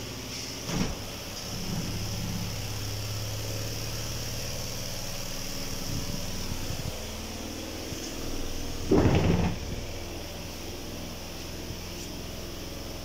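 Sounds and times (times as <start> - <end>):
spin dryer motor hum: 0.0 - 13.0.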